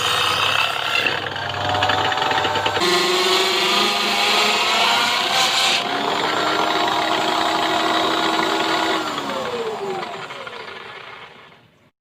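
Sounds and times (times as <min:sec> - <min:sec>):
electric drill motor whining: 0:00.0 - 0:11.5.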